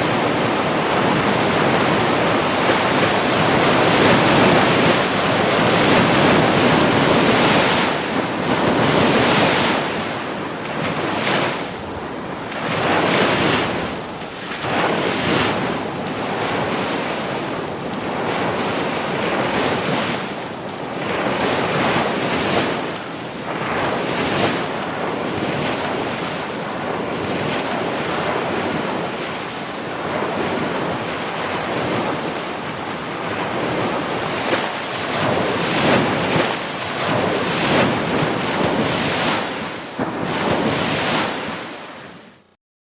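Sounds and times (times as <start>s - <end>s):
wind on microphone: 0.0s - 42.4s
waves breaking: 0.0s - 42.6s.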